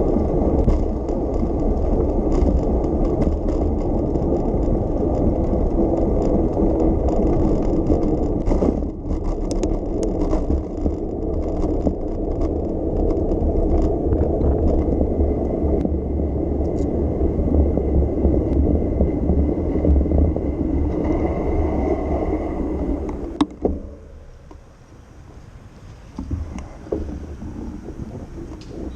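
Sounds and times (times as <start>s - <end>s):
faint bicycle rattles and clicks: 0.0s - 22.1s, 22.8s - 28.9s
bicycle tyre road noise: 0.0s - 28.9s
wind on microphone: 0.0s - 28.9s.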